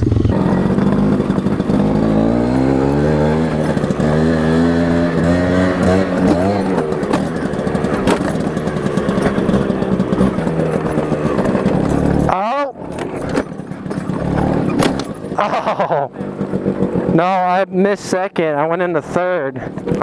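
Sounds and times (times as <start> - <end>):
motorbike engine accelerating: 0.0 - 18.2
rattles and knocks: 0.1 - 17.2.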